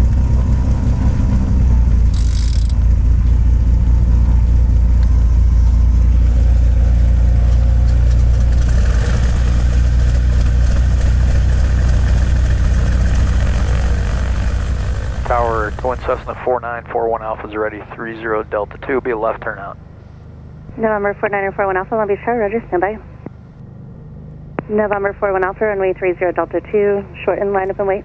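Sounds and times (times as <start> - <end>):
twin piston aircraft engines droning: 0.0 - 28.0.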